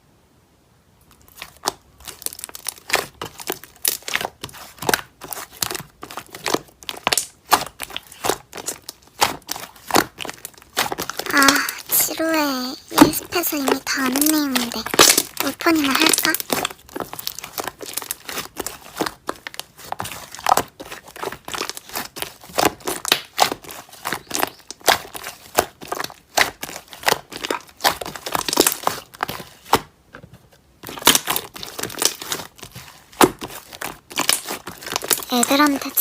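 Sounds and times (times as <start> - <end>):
slime squeezed crackling and popping: 1.2 - 29.8, 30.8 - 36.0.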